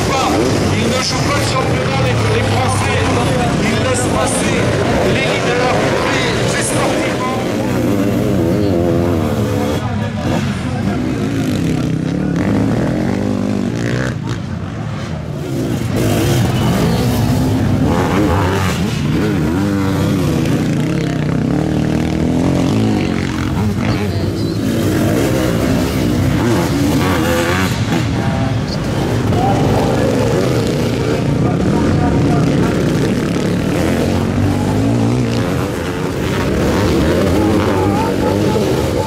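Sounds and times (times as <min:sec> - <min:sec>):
motorcycle engines revving hard: 0:00.0 - 0:39.0.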